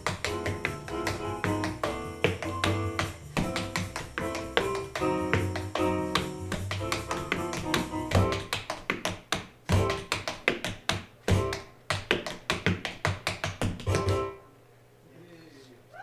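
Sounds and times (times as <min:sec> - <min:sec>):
tap shoes clicking on board: 0:00.0 - 0:14.3.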